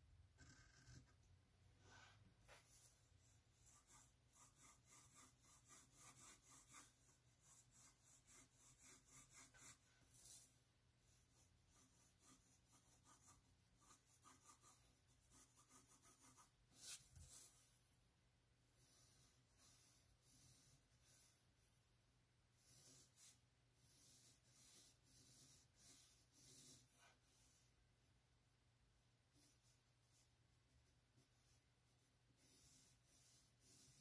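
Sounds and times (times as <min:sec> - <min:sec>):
pencil scratching on paper: 0:00.3 - 0:01.2, 0:01.8 - 0:17.7, 0:18.8 - 0:21.4, 0:22.5 - 0:27.8, 0:29.3 - 0:34.0.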